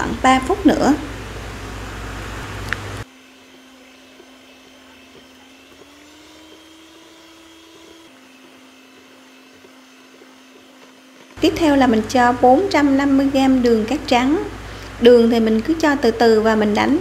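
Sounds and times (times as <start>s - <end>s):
electric hand mixer running: 0.6s - 15.0s.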